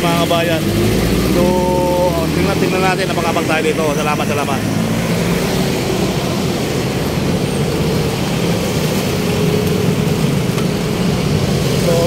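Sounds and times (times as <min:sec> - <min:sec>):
vehicle engines droning: 0:00.0 - 0:12.0.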